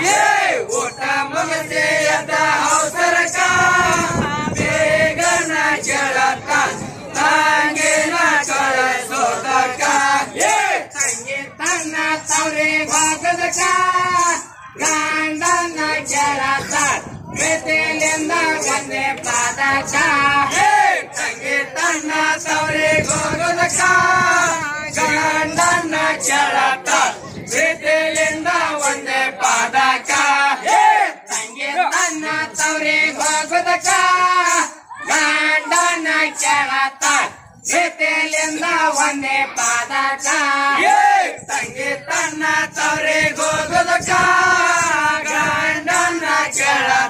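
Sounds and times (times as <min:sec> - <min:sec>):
men singing in unison: 0:00.0 - 0:47.0.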